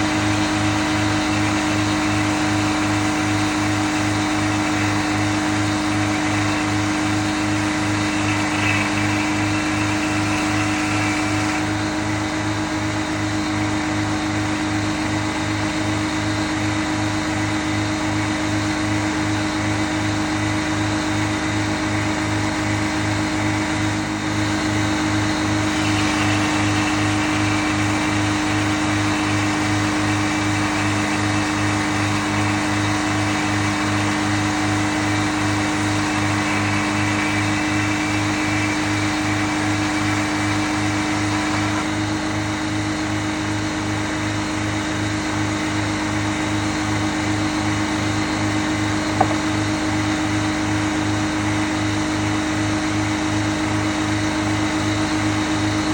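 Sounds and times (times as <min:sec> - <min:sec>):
saw blade cutting log: 0:00.0 - 0:14.5, 0:22.0 - 0:43.6, 0:45.5 - 0:55.9
sawmill motor humming: 0:00.0 - 0:55.9.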